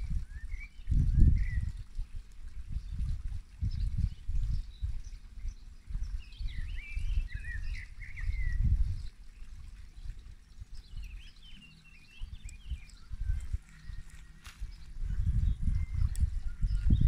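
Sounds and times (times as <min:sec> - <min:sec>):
wind gusting on microphone: 0:00.0 - 0:17.0.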